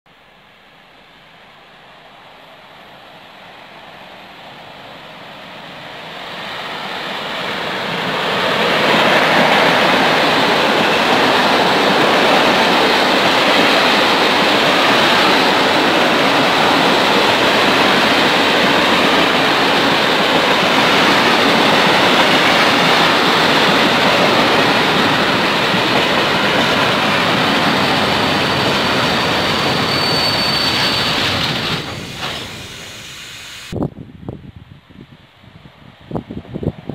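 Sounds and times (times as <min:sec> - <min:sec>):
freight train rolling past: 0:00.4 - 0:33.8.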